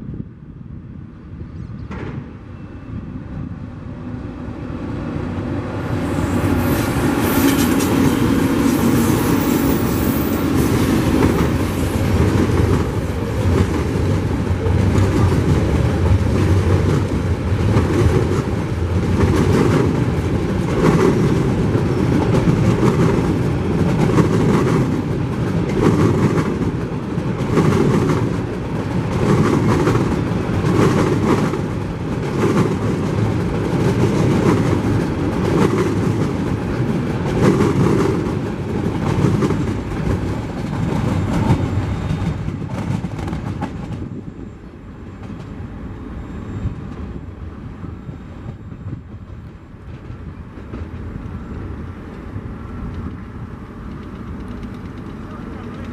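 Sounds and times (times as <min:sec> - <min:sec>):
diesel locomotives passing: 0:00.1 - 0:55.9
clickety-clack of wheels on rails: 0:01.5 - 0:02.7, 0:04.6 - 0:55.9.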